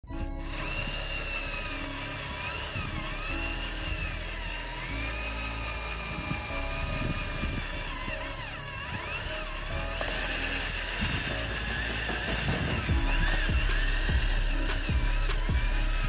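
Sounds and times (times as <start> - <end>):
background music: 0.0 - 16.0
electric motors whining: 0.0 - 16.0.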